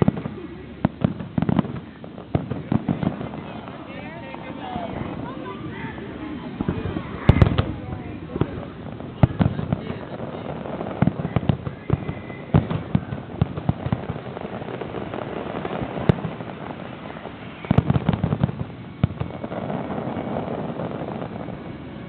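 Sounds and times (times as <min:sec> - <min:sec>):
fireworks bangs and crackles: 0:00.0 - 0:22.0
steady rumble: 0:00.0 - 0:22.0.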